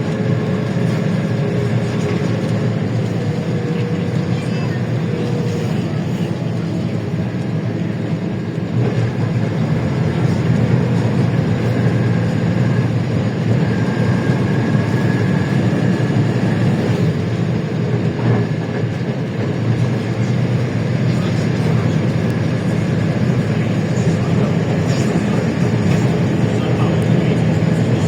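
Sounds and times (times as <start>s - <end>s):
bus engine droning: 0.0s - 28.0s
faint engine whine: 0.0s - 28.0s.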